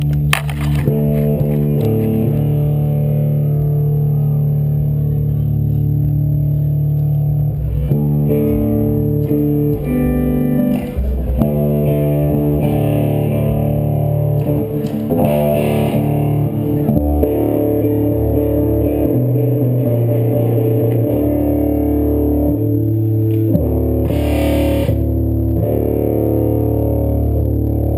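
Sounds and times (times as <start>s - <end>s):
live band playing guitar music: 0.0s - 27.9s.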